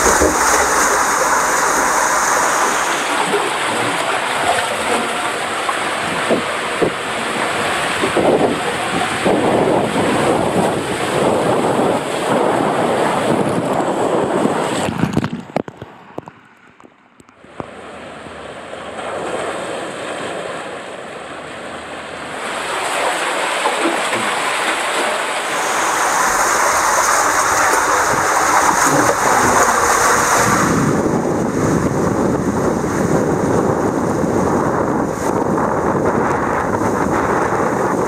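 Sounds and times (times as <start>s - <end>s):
water rushing in slide tube: 0.0s - 16.3s, 17.4s - 38.0s.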